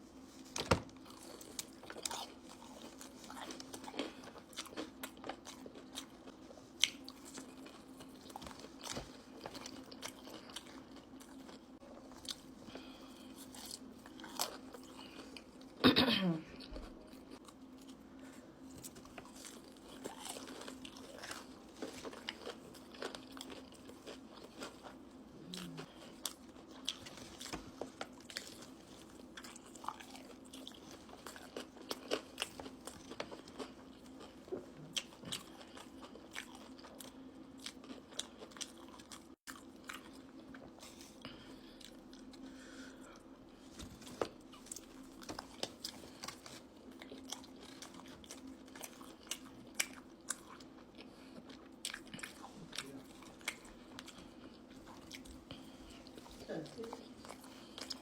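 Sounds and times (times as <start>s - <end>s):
faint low hum: 0.0s - 58.0s
crisp crunching and chewing: 1.0s - 15.8s, 18.6s - 58.0s.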